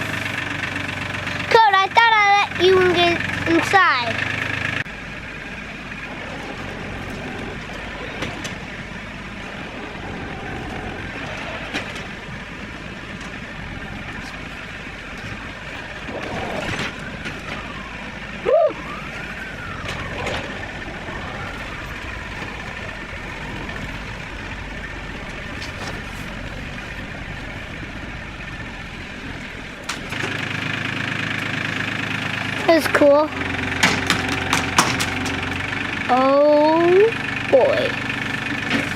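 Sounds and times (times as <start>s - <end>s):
tractor engine under load: 0.0s - 38.9s.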